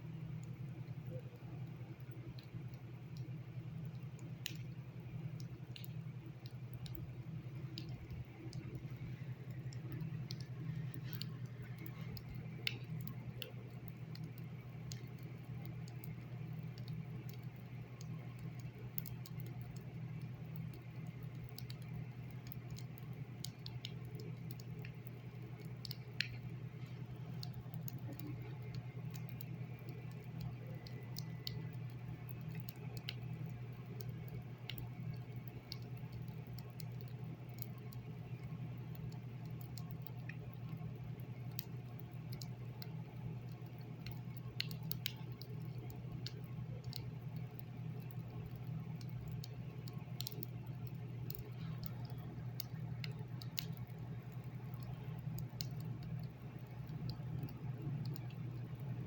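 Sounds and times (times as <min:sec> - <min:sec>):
steady low hum: 0:00.0 - 0:59.0
faint irregular clicking: 0:00.3 - 0:59.0.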